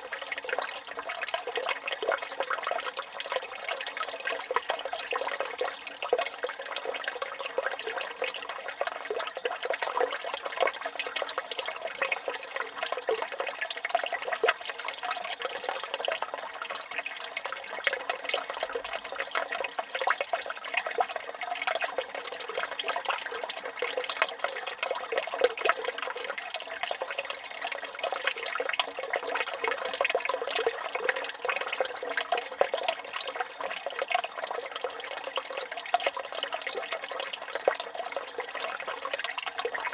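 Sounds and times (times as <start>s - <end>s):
fountain water splashing into basin: 0.0s - 39.9s.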